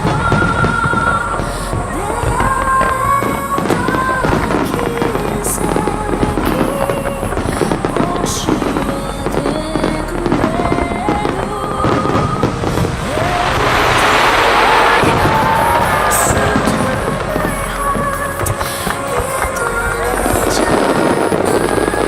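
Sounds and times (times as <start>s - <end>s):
fireworks bursting and crackling: 0.0s - 22.0s
music with clear melody: 0.0s - 22.0s.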